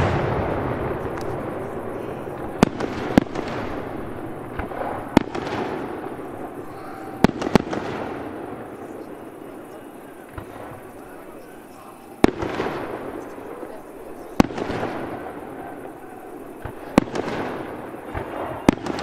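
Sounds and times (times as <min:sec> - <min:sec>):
firework shells bursting: 0:00.0 - 0:19.0
rolling echo: 0:00.0 - 0:19.0.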